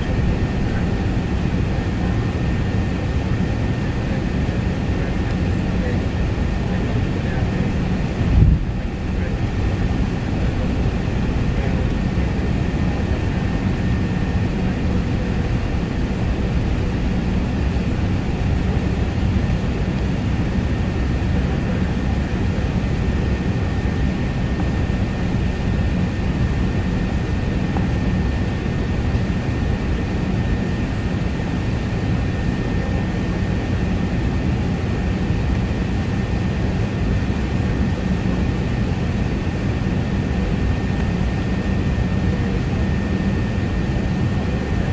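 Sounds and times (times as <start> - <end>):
jet engine rumble: 0.0 - 44.9.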